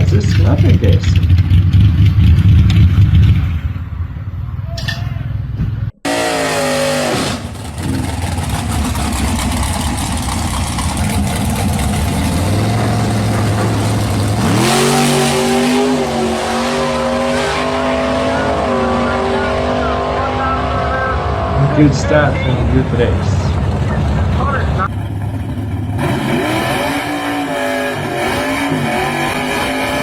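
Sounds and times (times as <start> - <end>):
drag racing engines revving: 0.0 - 4.3, 6.0 - 30.0.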